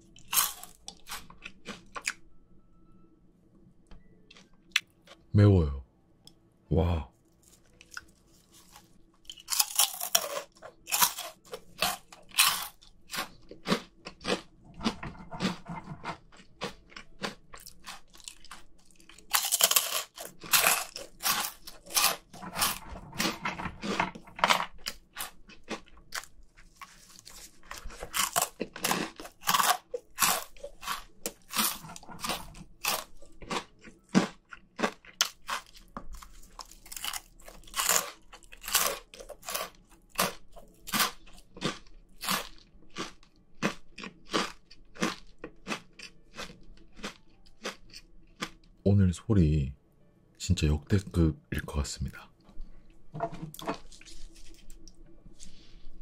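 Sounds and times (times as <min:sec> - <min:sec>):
person chewing: 0:00.0 - 0:02.2, 0:04.3 - 0:05.2, 0:07.4 - 0:48.8, 0:53.3 - 0:55.8
person crunching snacks: 0:00.0 - 0:02.2, 0:07.3 - 0:48.8, 0:53.6 - 0:55.8.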